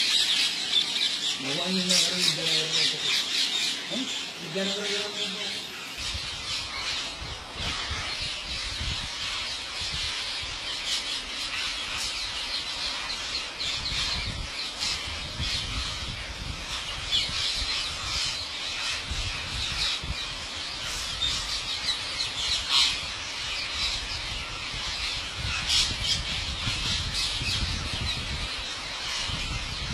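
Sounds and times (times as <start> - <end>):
parakeets screeching and chattering: 0.0 - 29.9.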